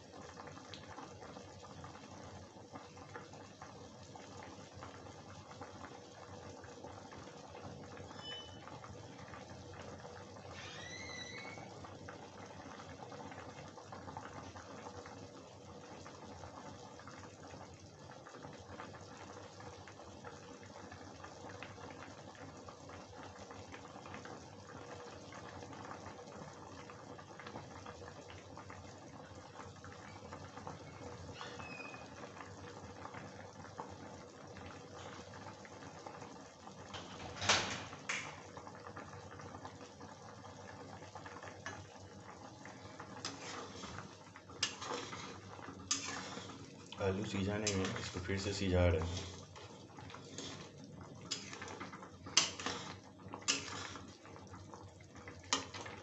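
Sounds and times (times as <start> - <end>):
curry bubbling in a pot: 0.0 - 56.0.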